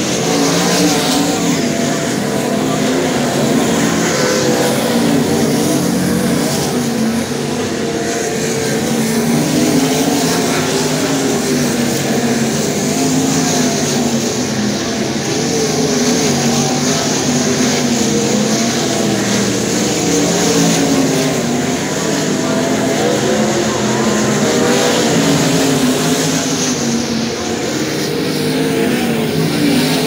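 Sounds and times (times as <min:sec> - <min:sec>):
race car engines circling: 0:00.0 - 0:30.0.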